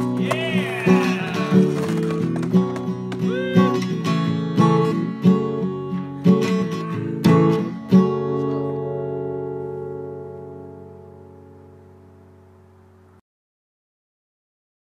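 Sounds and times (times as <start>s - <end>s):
acoustic guitar strumming: 0.0s - 13.2s.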